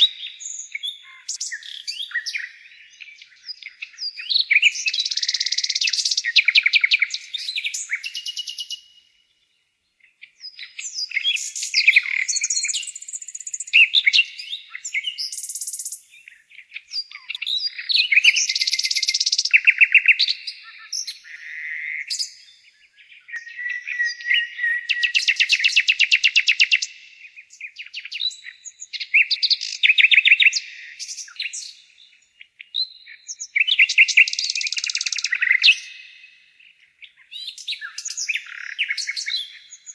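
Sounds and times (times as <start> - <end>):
nightingale singing trills: 0.0 - 39.9.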